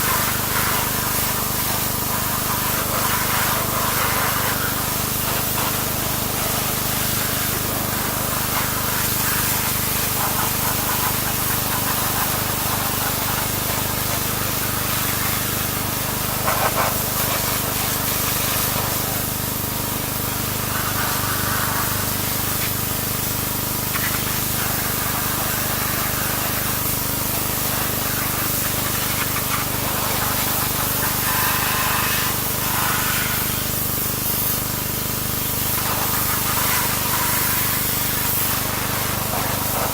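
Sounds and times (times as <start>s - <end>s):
pressure washer water jet hissing: 0.0s - 39.9s.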